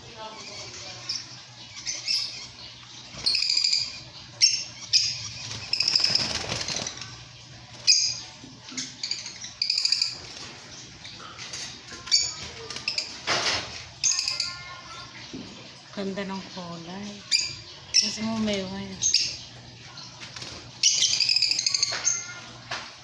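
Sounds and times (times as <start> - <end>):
lovebirds chirping: 0.0 - 15.0, 15.8 - 22.6.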